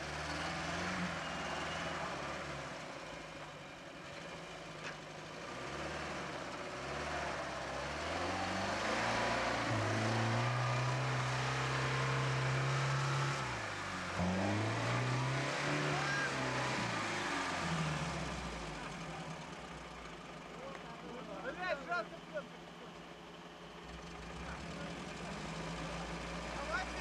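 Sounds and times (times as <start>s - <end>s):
engine pulling under load: 0.0s - 27.0s.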